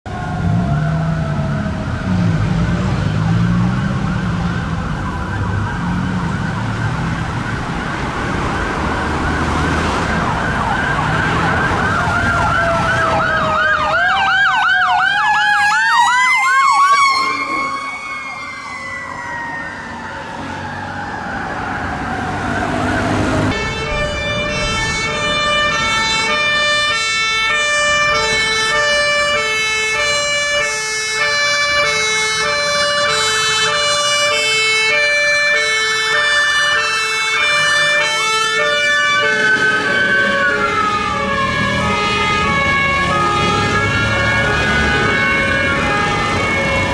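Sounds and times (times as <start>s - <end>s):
fire engine sirens wailing: 0.0s - 46.9s.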